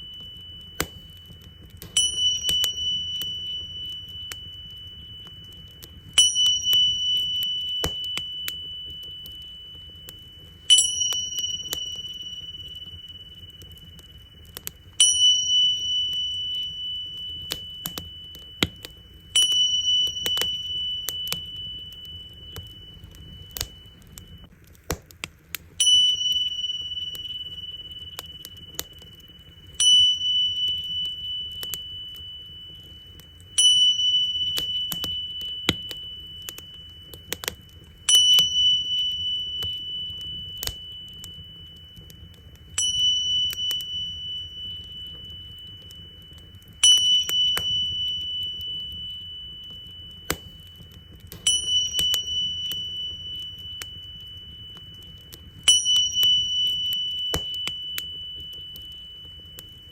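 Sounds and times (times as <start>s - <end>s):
small cymbals ringing: 0.0s - 24.6s, 25.6s - 59.9s
wood fire crackling: 0.0s - 59.9s.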